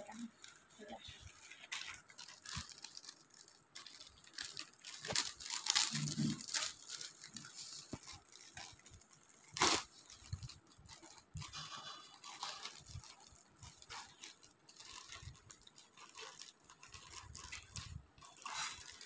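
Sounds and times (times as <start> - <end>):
plastic mailer bag crinkling: 0.0 - 19.0.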